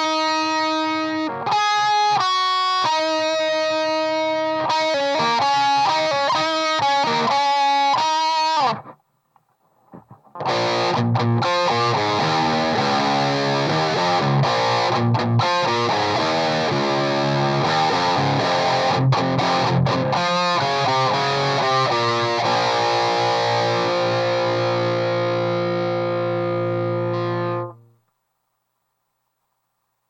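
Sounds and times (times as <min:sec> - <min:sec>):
distorted electric guitar riff: 0:00.0 - 0:09.0, 0:10.0 - 0:28.0.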